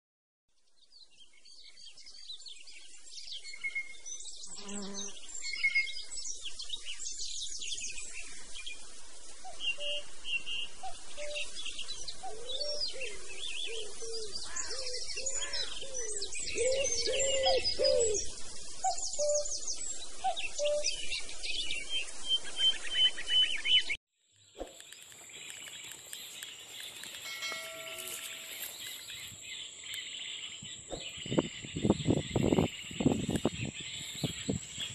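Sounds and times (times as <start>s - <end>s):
birds chirping and trilling: 0.6s - 34.9s.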